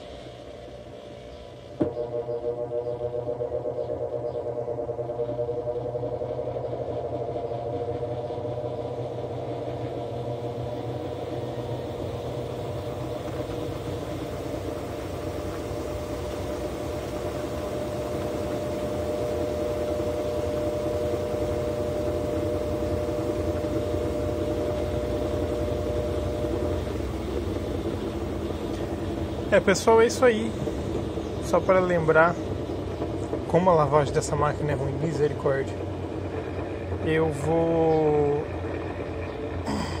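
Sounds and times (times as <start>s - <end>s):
washing machine motor whine: 0.0s - 40.0s.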